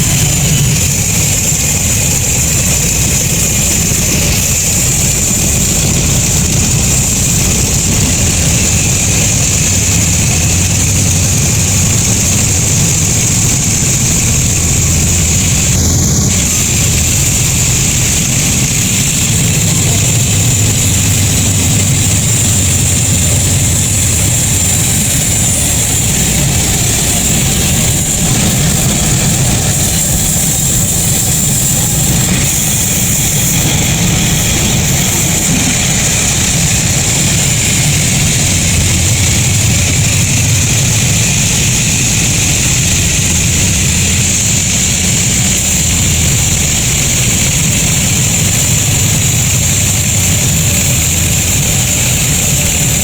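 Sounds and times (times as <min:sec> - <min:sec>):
high machine whine: 0:00.0 - 0:53.0
sawmill machinery humming: 0:00.0 - 0:53.0.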